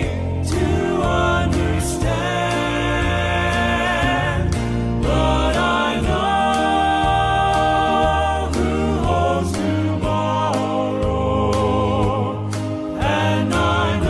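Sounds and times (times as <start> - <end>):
male vocal quartet singing: 0.0 - 14.0.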